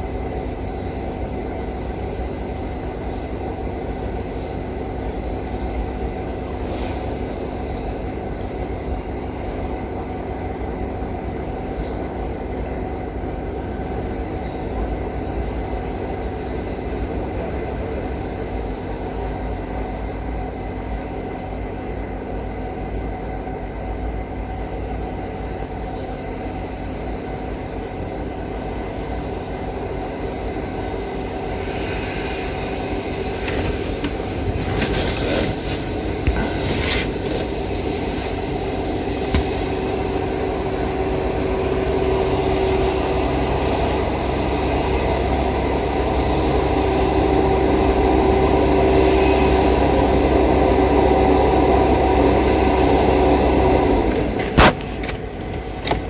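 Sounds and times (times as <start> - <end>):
low mechanical running sound: 0.0 - 56.0.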